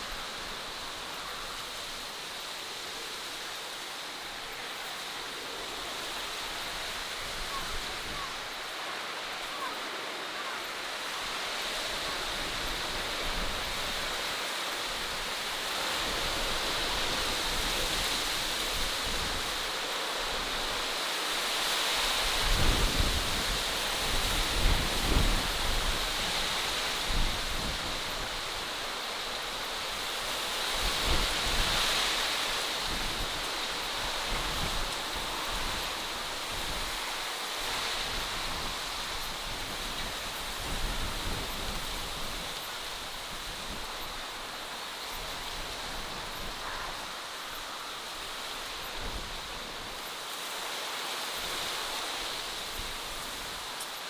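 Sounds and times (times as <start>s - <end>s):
steady rushing hiss: 0.0s - 54.0s.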